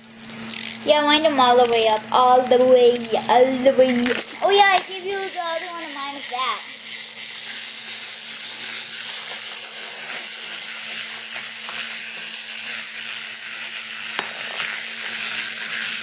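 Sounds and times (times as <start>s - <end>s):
clockwork toy whirring: 0.0s - 16.0s.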